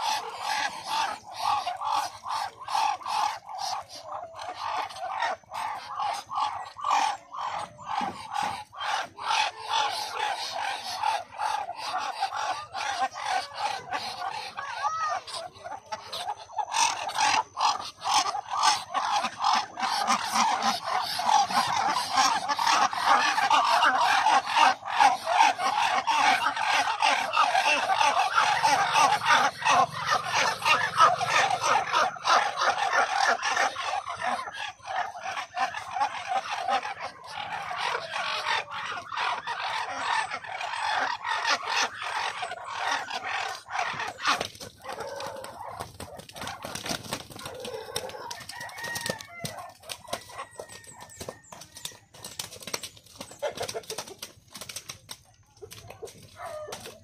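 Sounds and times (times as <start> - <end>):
poultry clucking: 0.0 - 57.0.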